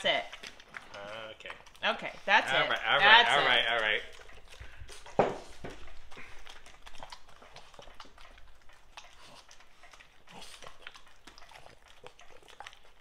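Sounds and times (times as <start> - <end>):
dogs chewing and licking: 0.0 - 13.0.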